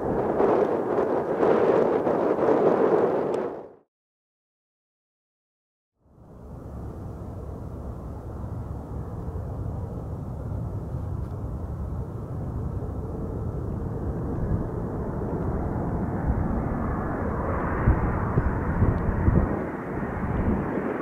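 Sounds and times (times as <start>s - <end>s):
aircraft engine rushing: 0.0s - 3.8s, 6.2s - 21.0s.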